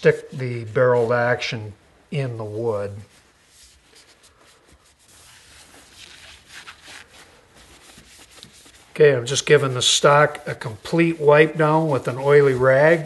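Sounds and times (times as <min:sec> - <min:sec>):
cloth rag rubbing on wood: 0:00.0 - 0:13.0.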